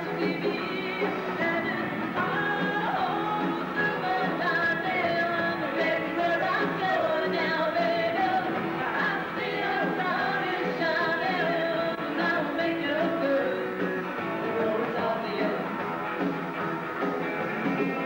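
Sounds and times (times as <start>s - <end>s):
woman singing lead: 0.0s - 15.8s
drums: 0.0s - 18.0s
guitars: 0.0s - 18.0s
live rock band playing: 0.0s - 18.0s.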